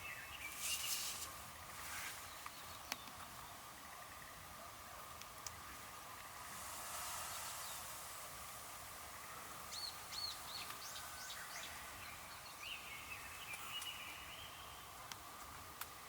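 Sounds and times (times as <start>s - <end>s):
bird chirping: 0.0s - 15.2s
steady background noise: 0.0s - 16.0s
drawn-out bird call: 2.0s - 15.0s.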